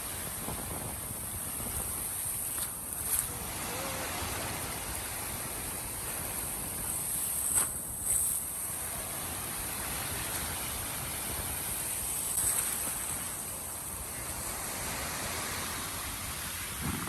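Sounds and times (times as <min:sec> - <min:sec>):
ocean surf: 0:00.0 - 0:17.0
wind rumbling on microphone: 0:00.0 - 0:17.0.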